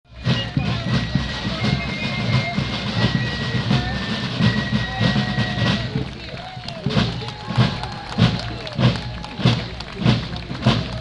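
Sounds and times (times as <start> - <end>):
marching drums: 0.1 - 11.0.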